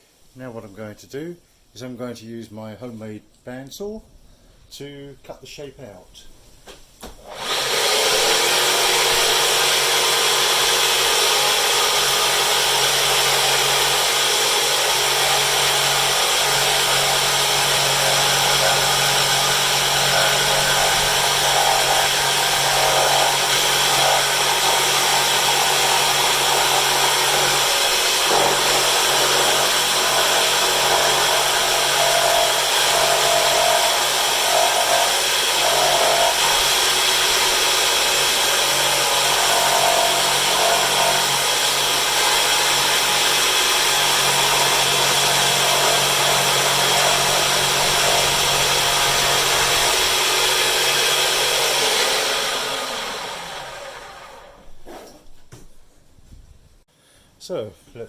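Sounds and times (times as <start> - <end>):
bandsaw cutting wood: 7.2 - 54.7.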